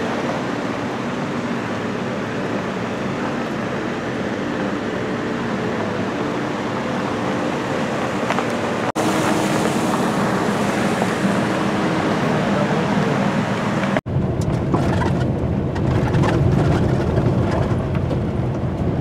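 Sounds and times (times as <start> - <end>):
car engine hum: 0.0 - 19.0
tyre and road rumble: 0.0 - 19.0.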